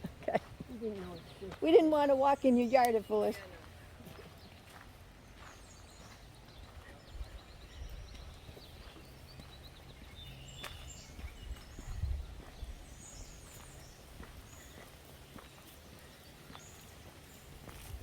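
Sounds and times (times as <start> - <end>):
footsteps on dirt trail: 0.0 - 18.0.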